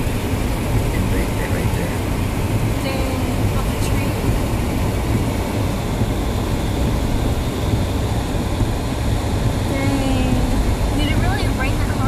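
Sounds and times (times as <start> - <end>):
rain on car roof: 0.0 - 12.0
vehicle engine and road noise: 0.0 - 12.0.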